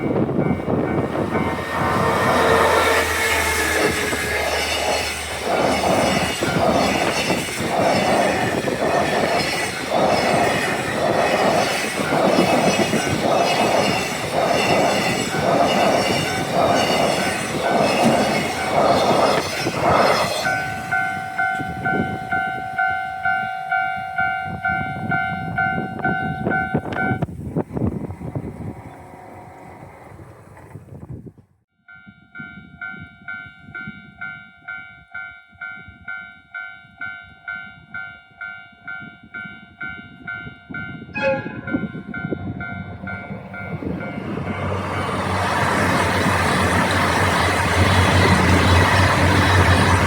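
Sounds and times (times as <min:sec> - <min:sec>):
crossing warning bell ringing: 0:00.0 - 0:27.3, 0:31.8 - 0:50.0.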